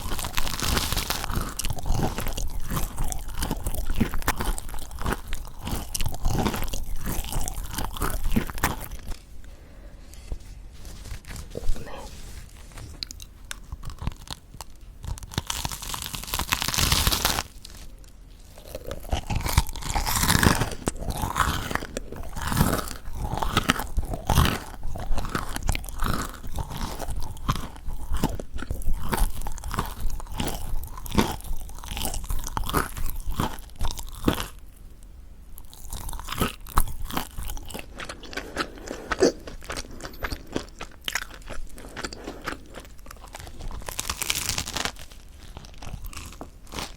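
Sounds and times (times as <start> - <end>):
biting crispy bread crust: 0.0 - 9.3, 12.7 - 34.7, 35.6 - 46.9
crunchy chewing: 0.0 - 46.9.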